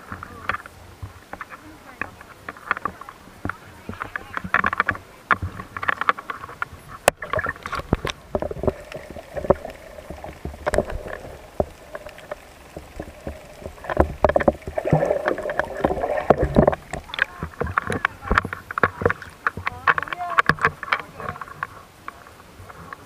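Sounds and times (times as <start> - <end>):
muffled water sloshing: 0.0 - 23.0
small clicks and knocks: 0.0 - 23.0.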